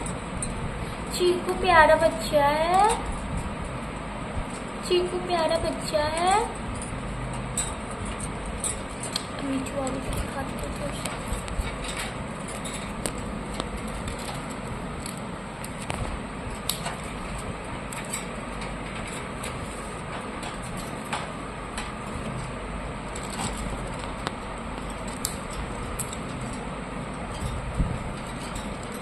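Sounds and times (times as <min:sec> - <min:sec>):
steady background hum: 0:00.0 - 0:29.0
beaks and claws tapping cage bars: 0:02.5 - 0:29.0.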